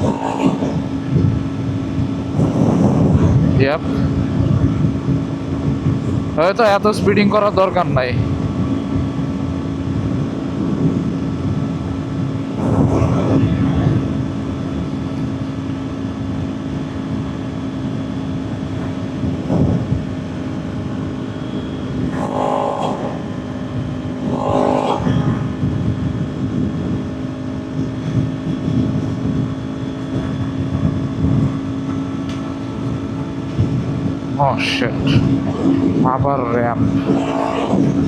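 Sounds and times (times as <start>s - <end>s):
motorcycle engine cruising: 0.0s - 38.0s
wind rush: 0.0s - 38.0s.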